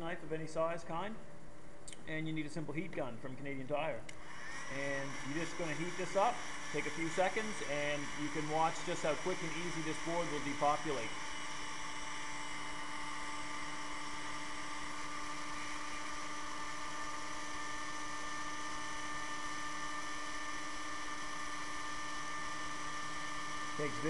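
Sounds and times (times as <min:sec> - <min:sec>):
heat gun humming and whining: 0:04.1 - 0:24.0.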